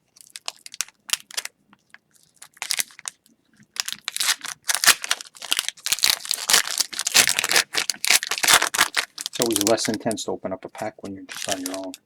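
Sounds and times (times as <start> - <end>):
foil wrapper crinkling and tearing: 0.1 - 10.2, 11.3 - 12.0.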